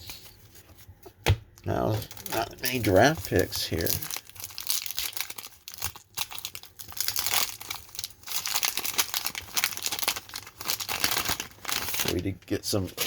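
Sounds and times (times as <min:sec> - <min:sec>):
wrapper crinkling: 0:01.8 - 0:13.0.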